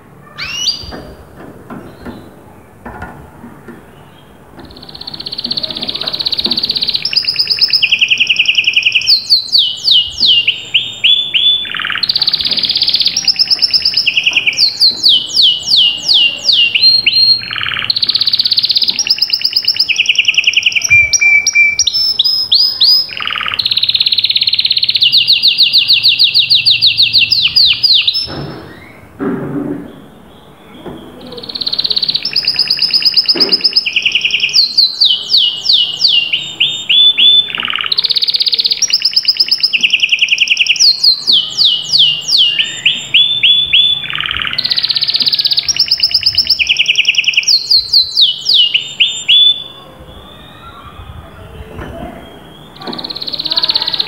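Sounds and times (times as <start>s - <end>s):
canary singing trills: 0.0s - 2.8s, 3.9s - 29.2s, 29.8s - 54.0s.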